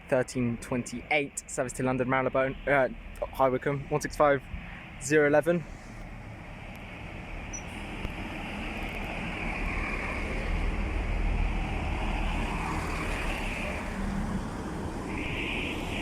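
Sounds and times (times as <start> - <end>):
diesel train rumbling: 0.0 - 16.0.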